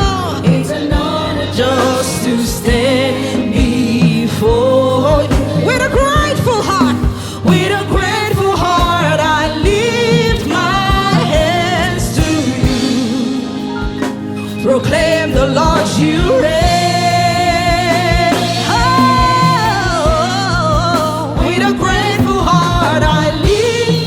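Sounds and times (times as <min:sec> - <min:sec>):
band playing a steady beat: 0:00.0 - 0:24.0
person singing: 0:00.0 - 0:24.0.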